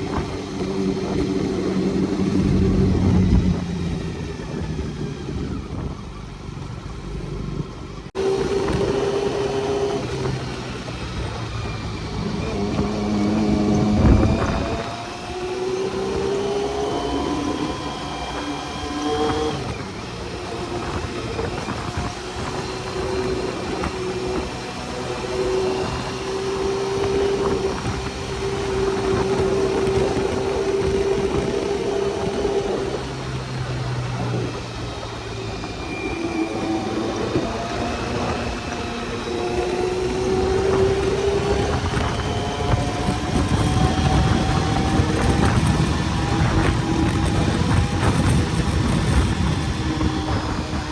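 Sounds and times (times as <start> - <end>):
motorcycle engine running: 0.0 - 50.9
wind noise on microphone: 0.0 - 50.9.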